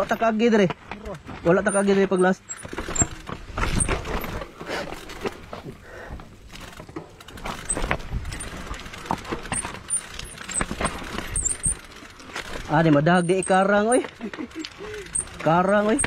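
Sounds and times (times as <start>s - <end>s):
bike clicks and rattles: 0.0s - 16.0s
tyres crunching over dirt and stones: 0.0s - 16.0s.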